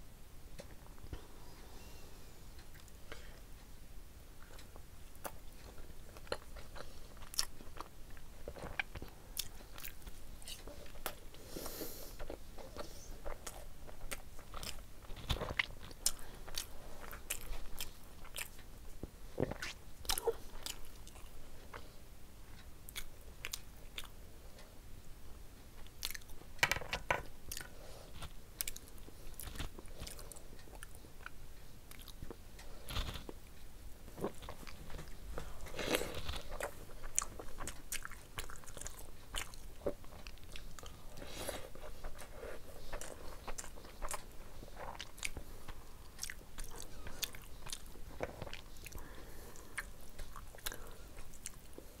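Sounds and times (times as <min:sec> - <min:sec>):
person chewing egg: 0:04.4 - 0:21.9, 0:22.5 - 0:24.2, 0:25.8 - 0:26.4, 0:27.5 - 0:33.5, 0:34.1 - 0:52.0.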